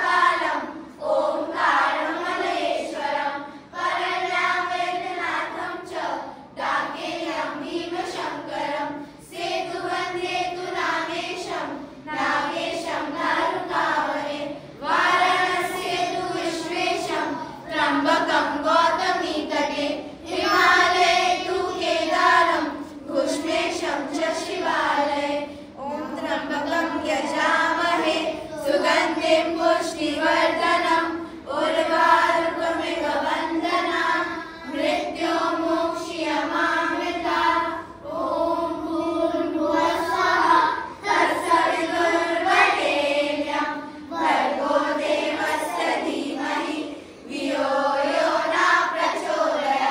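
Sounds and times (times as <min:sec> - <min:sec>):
children chanting a prayer: 0:00.0 - 0:49.9.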